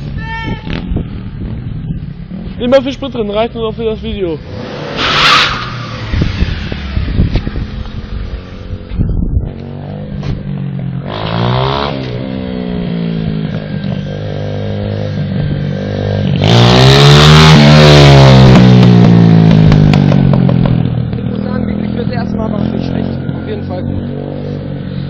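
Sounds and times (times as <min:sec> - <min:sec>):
small motorcycle engine revving: 0:04.4 - 0:25.0.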